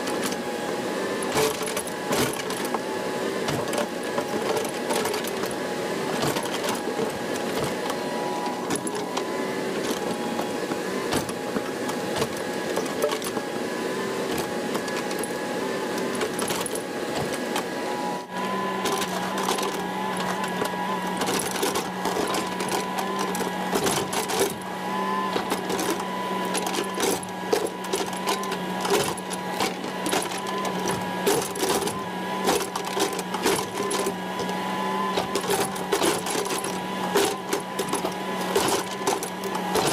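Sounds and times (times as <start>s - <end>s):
excavator engine and hydraulic drone: 0.0s - 39.9s.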